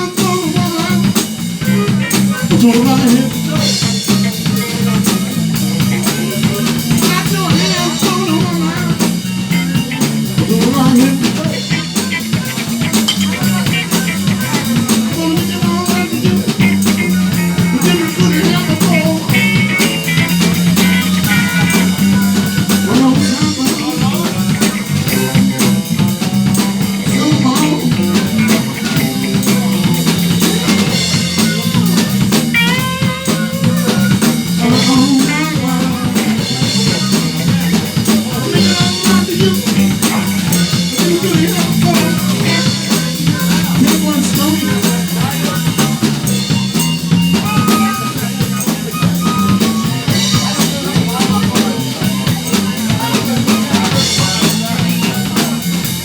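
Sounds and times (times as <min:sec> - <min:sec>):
bass guitar: 0:00.0 - 0:56.0
drum kit: 0:00.0 - 0:56.0
electric guitar phrases: 0:00.0 - 0:56.0.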